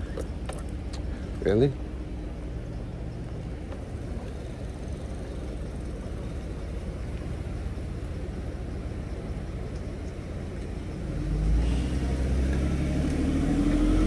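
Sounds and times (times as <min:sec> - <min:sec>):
bike road noise: 0:00.0 - 0:14.0.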